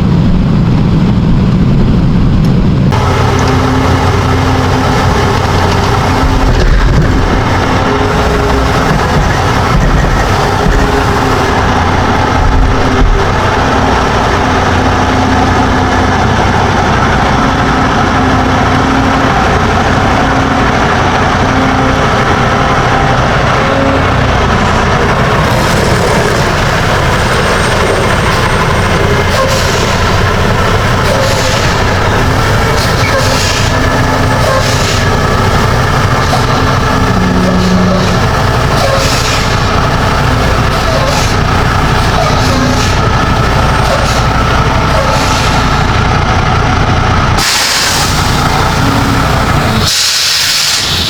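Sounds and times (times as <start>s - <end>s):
diesel truck engine hum: 0.0s - 51.0s
road noise: 0.0s - 51.0s.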